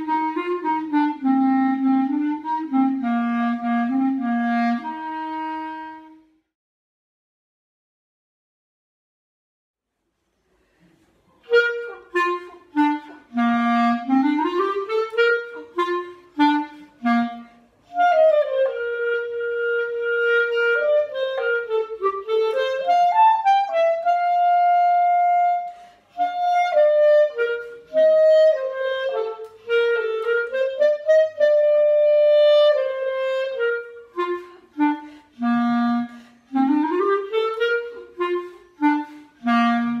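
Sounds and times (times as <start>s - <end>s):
solo clarinet: 0.0s - 6.5s, 11.3s - 40.0s.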